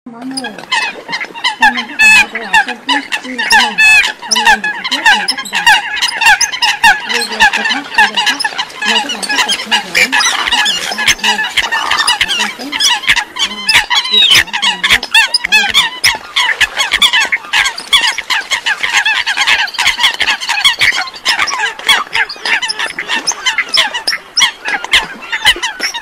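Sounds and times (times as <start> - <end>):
coots calling: 0.1 - 26.0.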